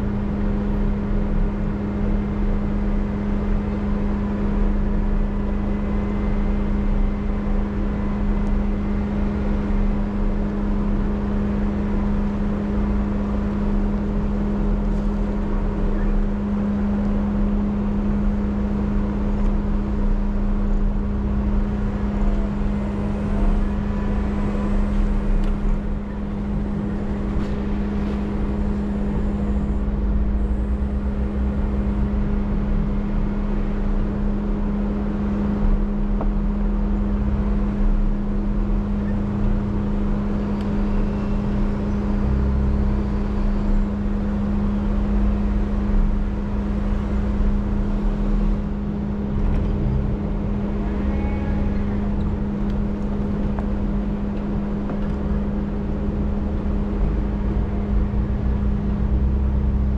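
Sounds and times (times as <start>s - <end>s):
low ride rumble: 0.0s - 59.9s
vehicle engine droning: 0.0s - 59.9s.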